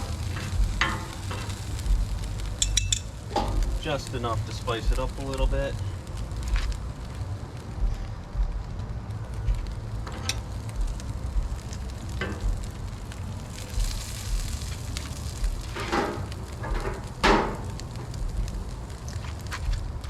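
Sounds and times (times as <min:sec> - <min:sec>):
food sizzling on griddle: 0:00.0 - 0:08.3, 0:08.9 - 0:20.0.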